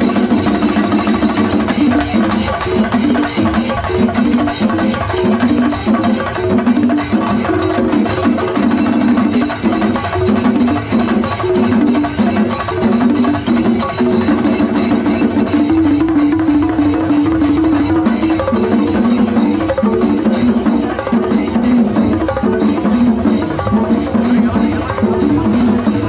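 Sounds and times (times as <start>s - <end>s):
fast drumming and percussion: 0.0s - 26.0s.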